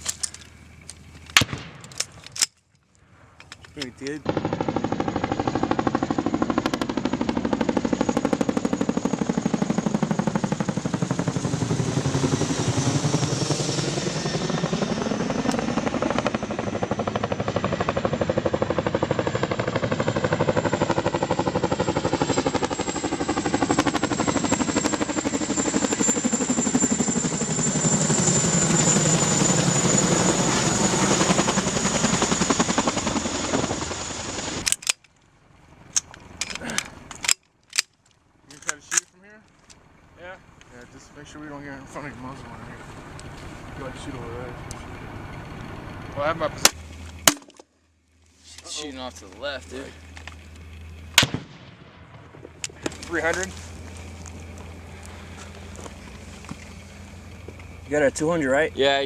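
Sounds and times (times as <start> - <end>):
aircraft engine overhead: 0.0 - 59.0.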